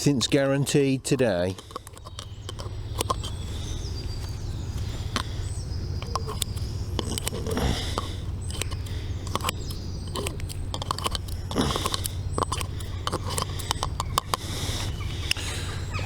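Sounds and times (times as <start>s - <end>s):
fishing tackle clicks and rustles: 0.0s - 15.5s
steady low rumble: 0.0s - 16.0s
faint birdsong whistles: 1.9s - 16.0s.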